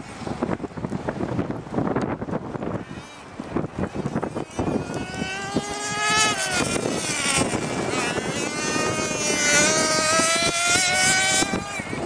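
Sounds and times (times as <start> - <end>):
nitro engine whining at high revs: 1.4 - 12.0.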